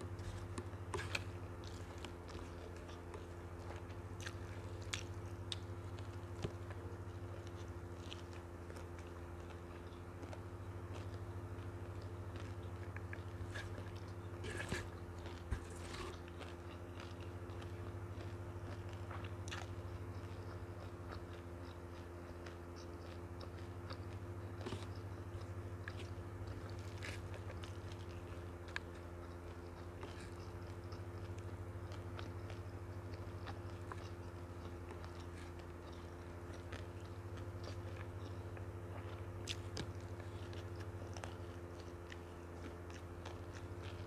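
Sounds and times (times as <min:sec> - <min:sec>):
chewing rice and noodles: 0:00.0 - 0:44.0
steady low hum: 0:00.0 - 0:44.0.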